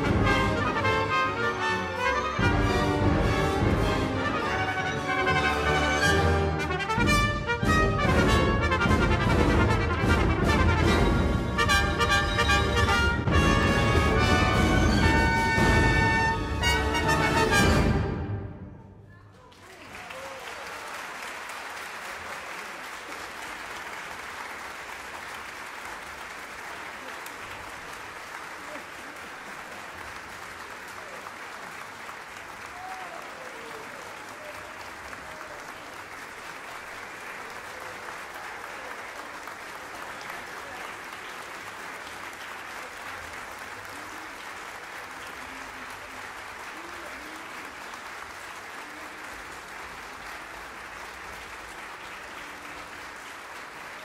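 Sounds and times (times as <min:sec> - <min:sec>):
audience applauding: 0:00.0 - 0:18.0, 0:19.4 - 0:54.0.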